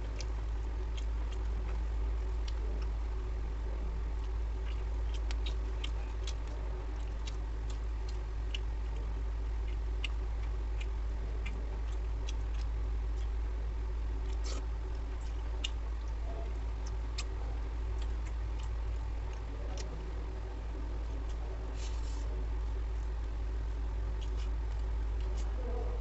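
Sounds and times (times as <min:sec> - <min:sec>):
chewing and finger clicks: 0:00.0 - 0:03.1, 0:04.0 - 0:13.4, 0:14.1 - 0:26.0
low hum: 0:00.0 - 0:26.0.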